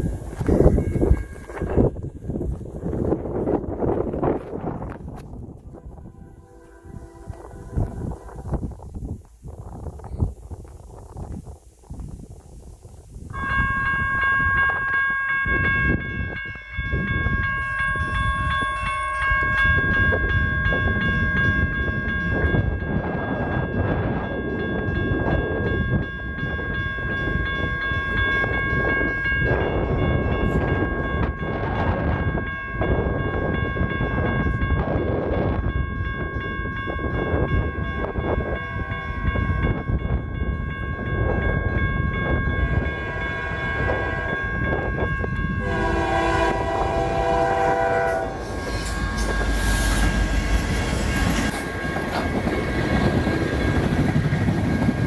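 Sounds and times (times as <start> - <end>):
railroad crossing bell ringing: 0.0 - 9.0, 13.3 - 55.0
approaching train rumble: 0.0 - 55.0.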